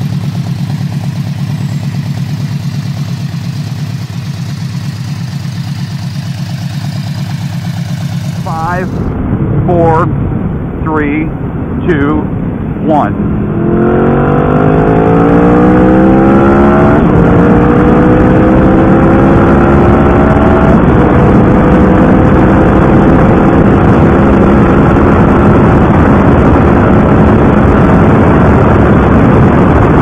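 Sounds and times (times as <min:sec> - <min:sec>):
motorcycle engine accelerating: 0:00.0 - 0:10.7, 0:11.4 - 0:30.0.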